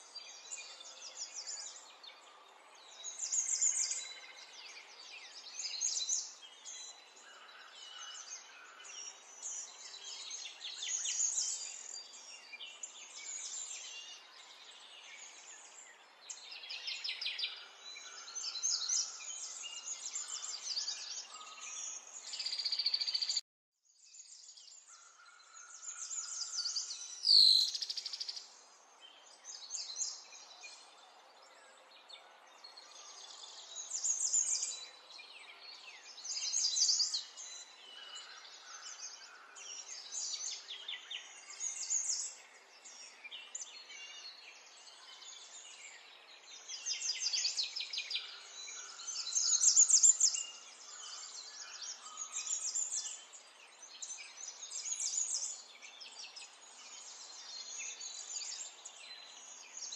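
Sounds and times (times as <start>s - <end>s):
birds chirping in chorus: 0.0s - 59.9s.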